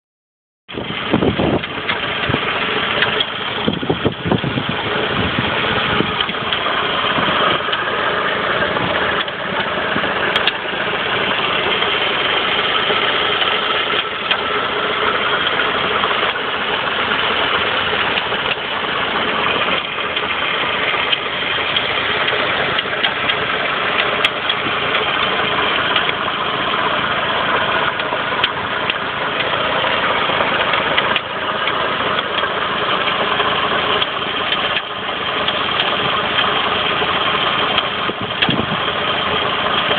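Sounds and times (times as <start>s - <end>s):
car engine idling: 0.7s - 39.9s.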